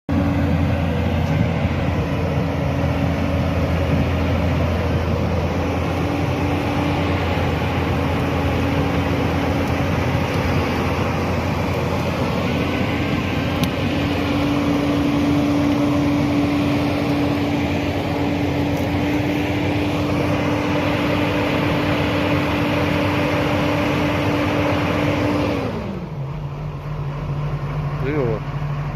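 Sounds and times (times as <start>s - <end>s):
excavator diesel engine running: 0.1s - 28.9s.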